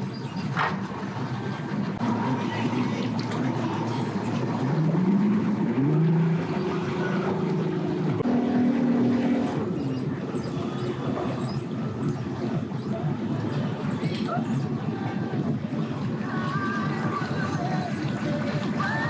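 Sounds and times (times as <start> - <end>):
boat engine revving: 0.0 - 19.0.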